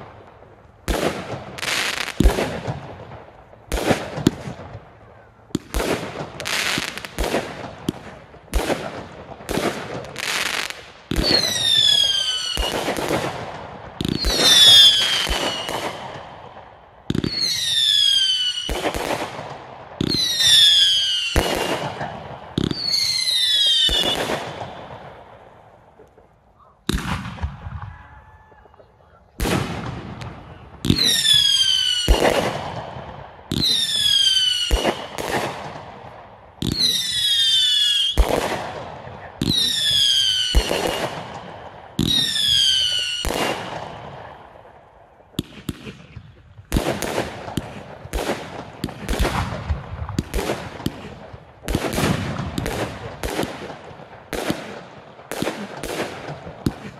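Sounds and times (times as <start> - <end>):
whistling fireworks: 0.0 - 26.1, 26.8 - 56.9
fireworks bangs and crackles: 0.0 - 28.0, 29.3 - 56.9.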